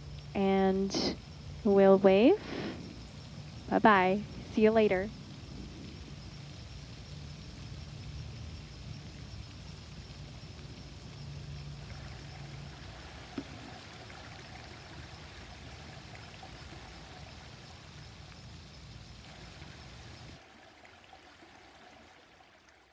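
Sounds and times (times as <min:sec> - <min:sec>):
stream running: 0:00.0 - 0:22.9.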